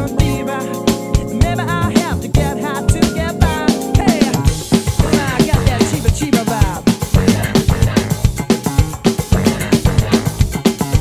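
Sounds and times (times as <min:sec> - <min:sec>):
drum kit and cymbals: 0:00.0 - 0:11.0
funk recording with bass and guitar: 0:00.0 - 0:11.0.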